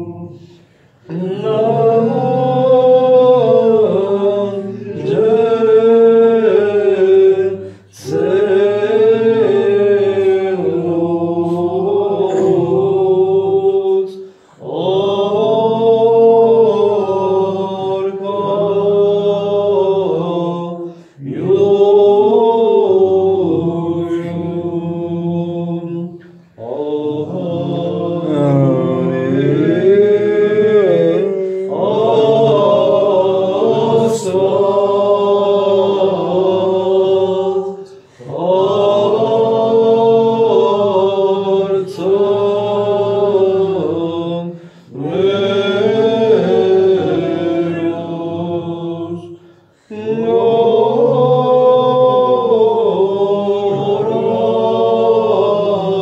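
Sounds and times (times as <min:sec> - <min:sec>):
unaccompanied chanting: 0:00.0 - 0:56.0.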